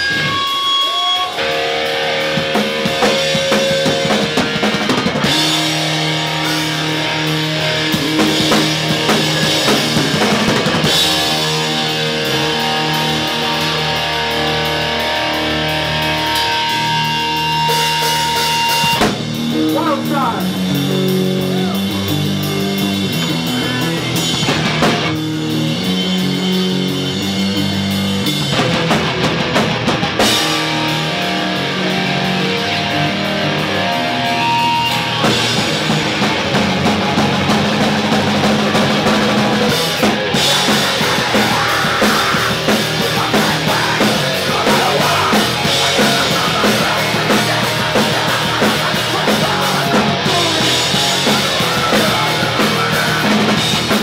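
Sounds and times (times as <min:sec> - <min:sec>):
distorted electric guitar: 0:00.0 - 0:54.0
drum kit with cymbals: 0:00.0 - 0:54.0.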